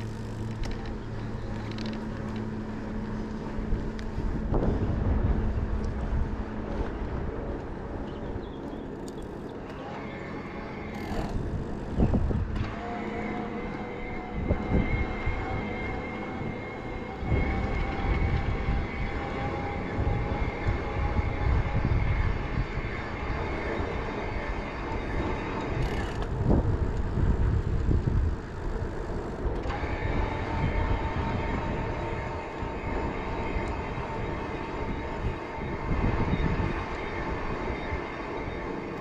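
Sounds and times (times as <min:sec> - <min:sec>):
faint motor whine: 0:00.0 - 0:39.0
rolling tyre noise: 0:00.0 - 0:39.0
wind rumble on microphone: 0:00.0 - 0:39.0.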